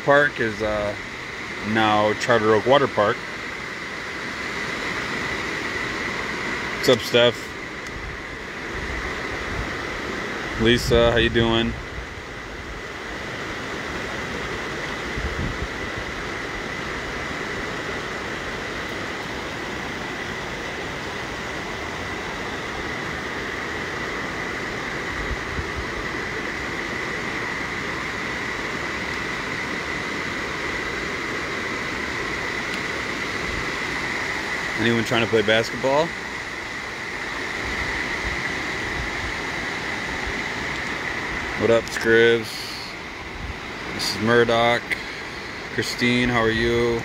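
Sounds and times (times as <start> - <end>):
rain and running floodwater: 0.0 - 47.0
thin steady high tone: 0.0 - 47.0.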